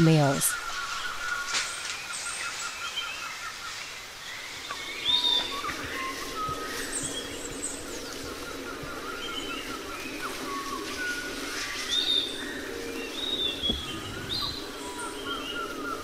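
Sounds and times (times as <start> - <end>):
forest birds chirping and whistling: 0.0 - 16.0.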